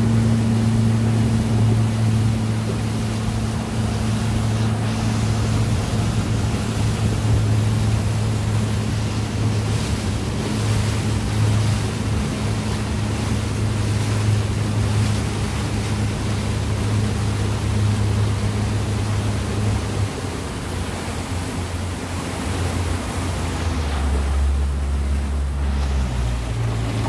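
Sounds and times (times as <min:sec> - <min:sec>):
boat engine humming: 0:00.0 - 0:27.0
water rushing: 0:00.0 - 0:27.0
wind: 0:00.0 - 0:27.0.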